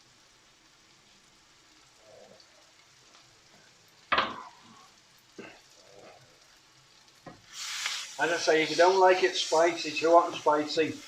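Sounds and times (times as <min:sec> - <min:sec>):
loud sizzle of food into pan: 0:00.0 - 0:11.0
sauce frying in a pan: 0:00.0 - 0:11.0.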